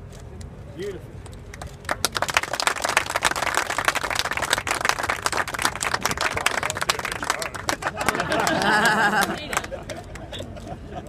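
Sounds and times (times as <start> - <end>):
group applauding: 1.5 - 10.4.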